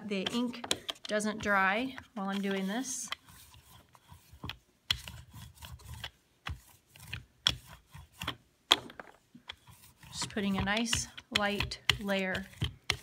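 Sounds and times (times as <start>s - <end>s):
rubber roller rolling on foam: 0.1s - 13.0s.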